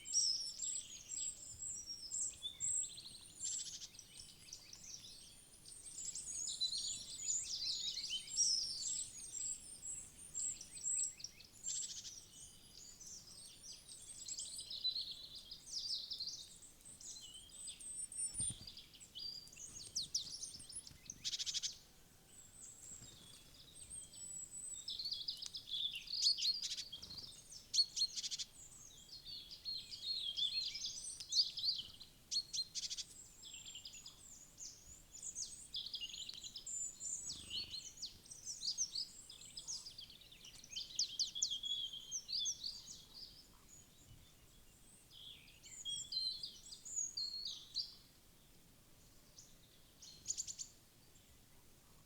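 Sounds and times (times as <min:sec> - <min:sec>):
songbirds chirping: 0:00.0 - 0:52.0.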